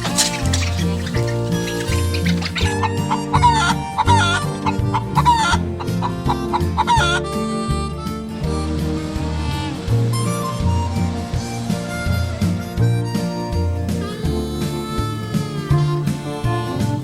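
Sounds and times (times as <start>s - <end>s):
chickens clucking: 0.0s - 17.0s
music with bass line: 0.0s - 17.0s.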